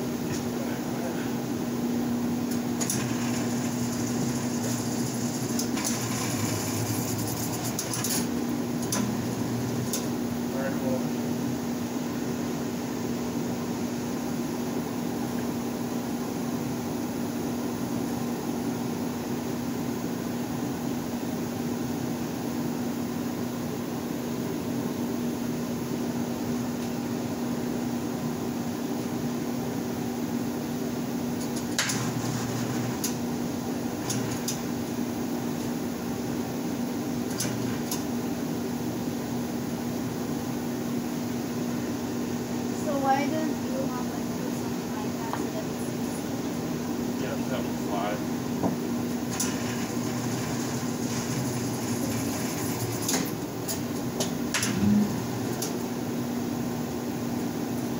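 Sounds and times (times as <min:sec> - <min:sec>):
machine hum: 0:00.0 - 0:18.7, 0:26.0 - 0:57.9.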